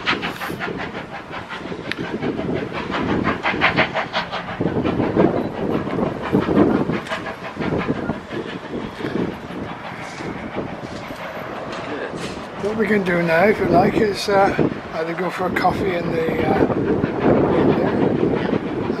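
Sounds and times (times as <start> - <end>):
steam hissing: 0.0 - 19.0
steam locomotive chuffing: 0.0 - 19.0.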